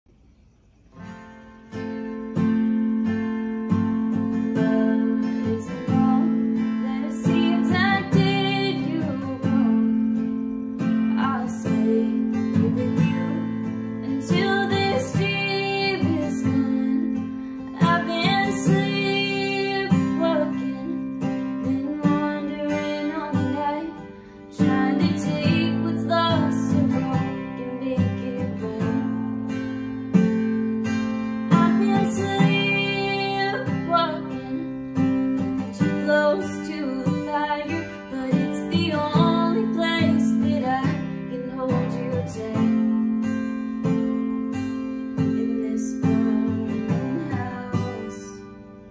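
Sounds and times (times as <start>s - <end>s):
strummed acoustic guitar: 0.9s - 48.9s
woman singing: 4.1s - 29.8s, 30.9s - 48.7s.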